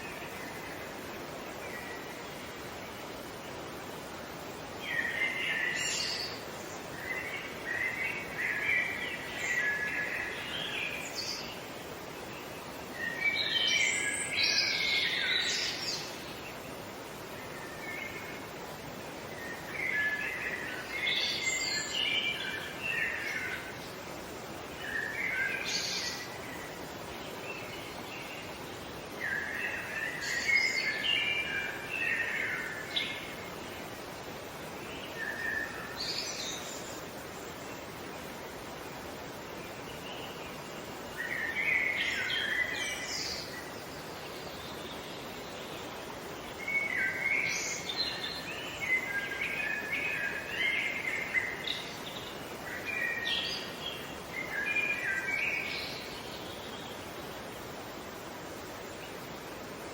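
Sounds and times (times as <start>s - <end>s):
background hiss: 0.0s - 59.9s
songbirds singing: 0.0s - 59.9s.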